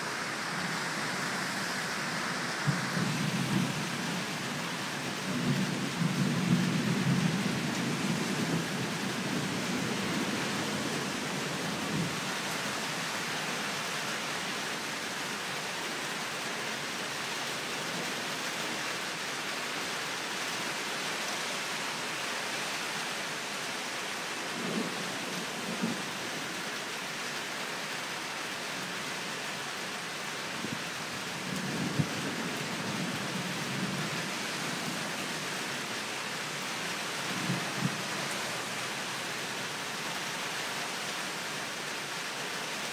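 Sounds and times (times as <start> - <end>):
rain hiss: 0.0 - 42.9.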